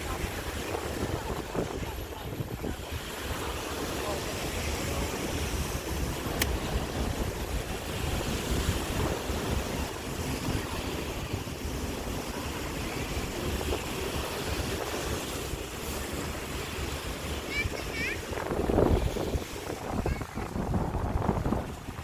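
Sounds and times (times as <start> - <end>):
waves washing onto shore: 0.0 - 22.0
wind buffeting microphone: 0.0 - 22.0.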